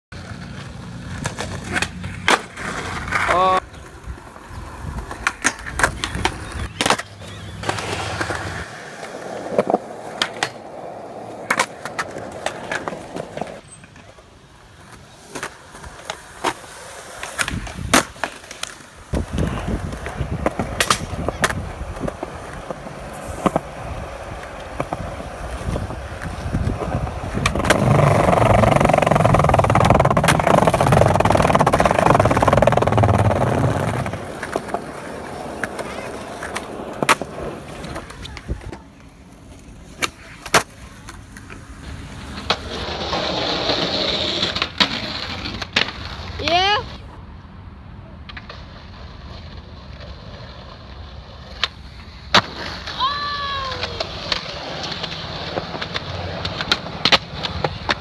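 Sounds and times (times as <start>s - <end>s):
skateboard wheels rolling on concrete: 0.1s - 58.0s
skateboard clacks and slaps: 0.2s - 47.0s, 48.2s - 58.0s
skateboard rolling on wooden boards: 0.2s - 47.2s, 48.2s - 58.0s.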